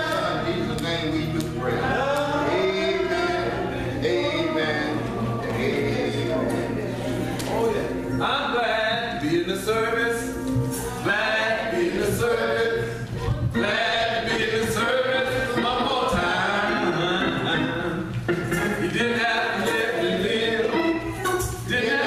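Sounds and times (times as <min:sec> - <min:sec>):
man singing into a microphone: 0:00.0 - 0:06.6, 0:08.2 - 0:10.4, 0:11.0 - 0:21.0
group singing a hymn: 0:00.0 - 0:22.0.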